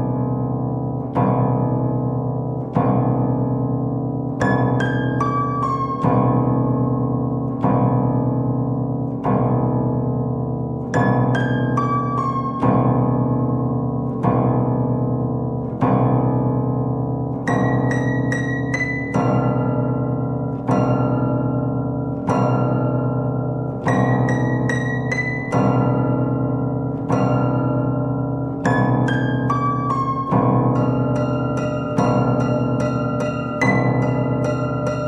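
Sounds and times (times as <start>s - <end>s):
out-of-tune upright piano: 0.0s - 35.0s.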